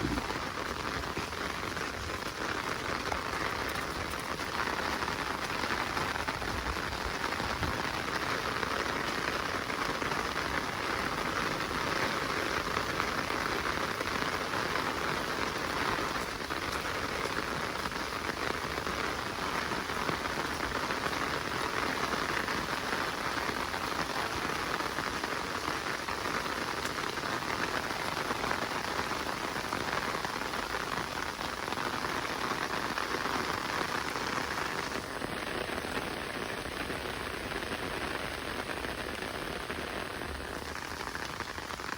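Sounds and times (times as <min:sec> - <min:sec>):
steady rain in forest: 0:00.0 - 0:41.9.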